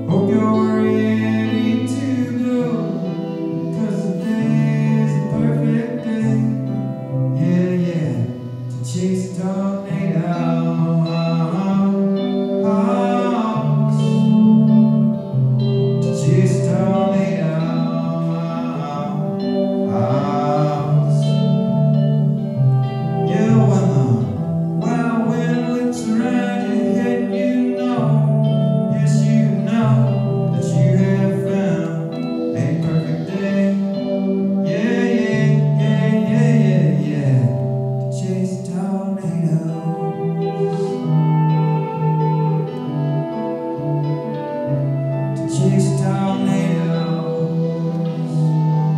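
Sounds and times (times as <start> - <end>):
guitar playing: 0.0 - 48.9
man singing: 0.0 - 48.9.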